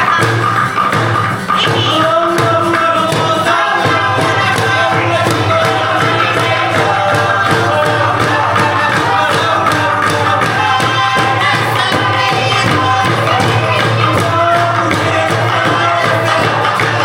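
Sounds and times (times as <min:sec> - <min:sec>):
group singing: 0:00.0 - 0:17.0
percussion beat: 0:00.0 - 0:17.0.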